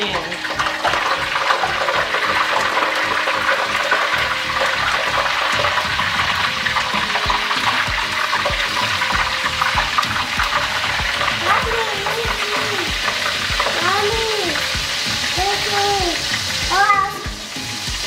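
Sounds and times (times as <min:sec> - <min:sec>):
butter sizzling in a pan: 0:00.0 - 0:18.0.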